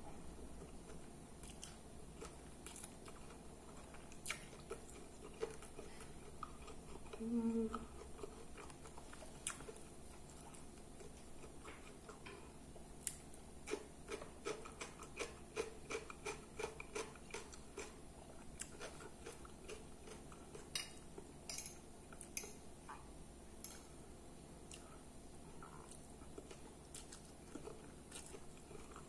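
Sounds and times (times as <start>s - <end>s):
crunchy chewing: 0.6s - 12.4s, 13.0s - 21.3s, 24.6s - 29.0s.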